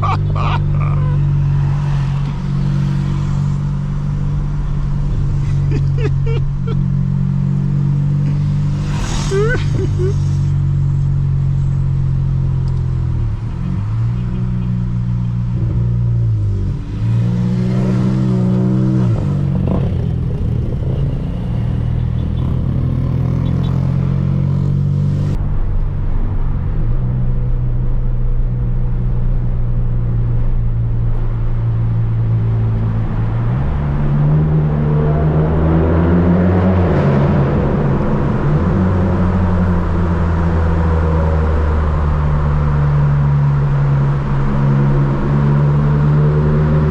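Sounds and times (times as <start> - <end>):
car engine accelerating: 0.0 - 46.9.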